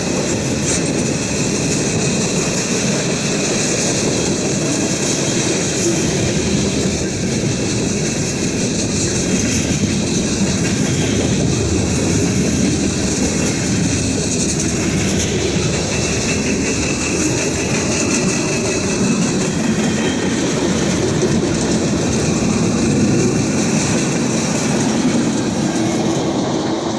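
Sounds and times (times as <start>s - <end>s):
train wheels clattering on rails: 0.0s - 26.9s
wind buffeting microphone: 0.0s - 26.9s.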